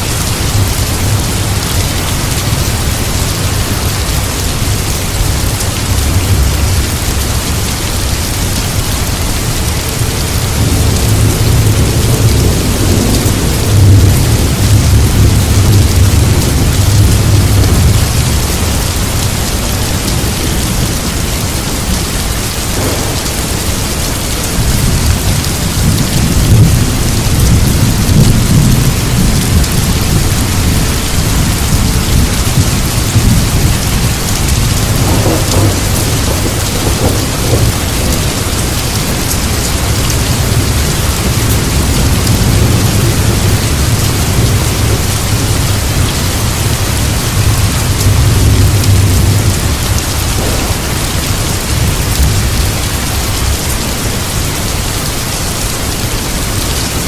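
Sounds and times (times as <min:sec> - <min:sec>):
heavy rain: 0:00.0 - 0:57.0
thunder rumbling: 0:00.0 - 0:57.0.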